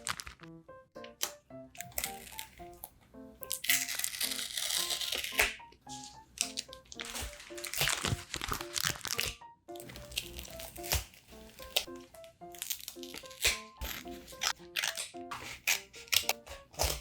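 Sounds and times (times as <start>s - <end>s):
paper crinkling and rustling: 0.0s - 0.5s, 3.4s - 17.0s
light music with plucked notes: 0.0s - 17.0s.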